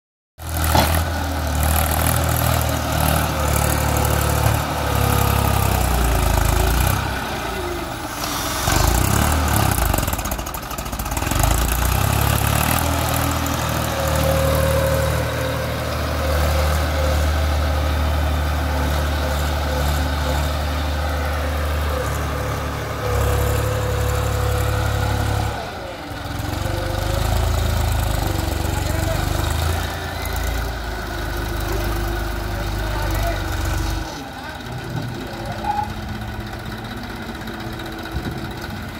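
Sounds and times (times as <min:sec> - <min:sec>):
tractor engine running: 0:00.4 - 0:38.9
loader scooping sand: 0:00.5 - 0:10.4, 0:11.1 - 0:36.4.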